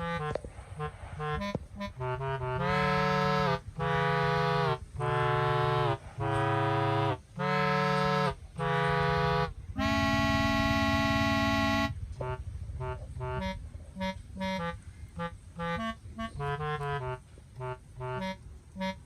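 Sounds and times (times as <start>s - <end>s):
reedy chords music: 0.0s - 19.0s.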